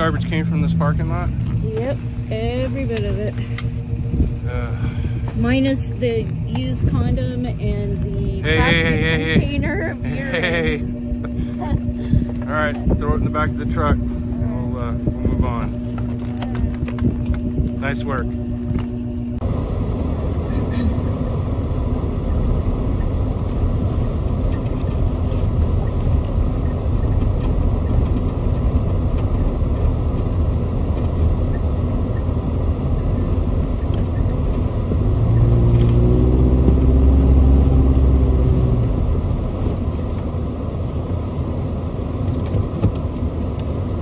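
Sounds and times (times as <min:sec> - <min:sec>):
tyres rumbling over rough ground: 0:00.0 - 0:44.0
utv engine running: 0:00.0 - 0:44.0.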